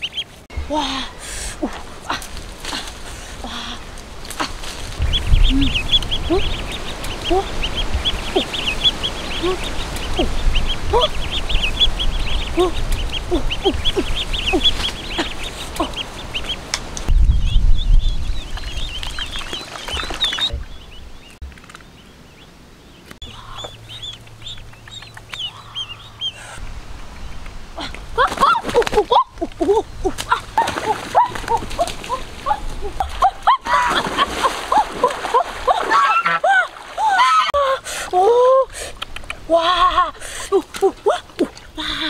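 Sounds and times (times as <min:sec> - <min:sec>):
low rumbles: 0:00.0 - 0:35.0
birds chirping: 0:00.0 - 0:36.6.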